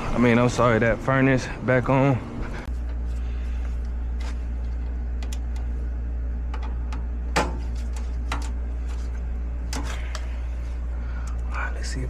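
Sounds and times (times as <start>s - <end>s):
furnace blower hum: 0.0s - 12.0s.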